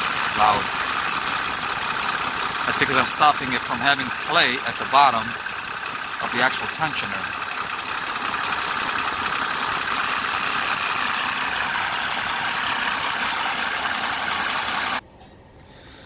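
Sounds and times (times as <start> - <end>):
diesel engine idling with rattle: 0.0 - 15.3.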